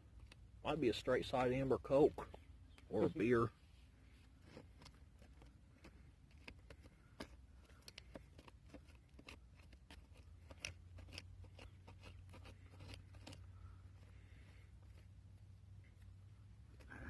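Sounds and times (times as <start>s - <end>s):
digging scrapes and clicks: 0.0s - 17.0s.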